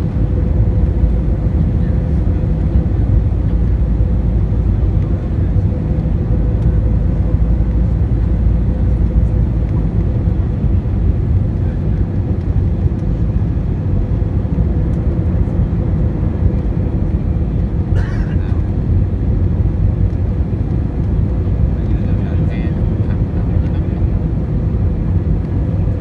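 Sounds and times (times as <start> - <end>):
jet engine roar in cabin: 0.0 - 26.0.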